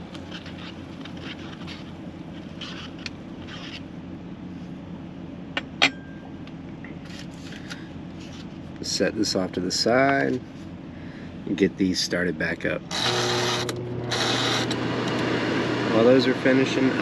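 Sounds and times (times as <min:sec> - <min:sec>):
low hum: 0:00.0 - 0:16.4.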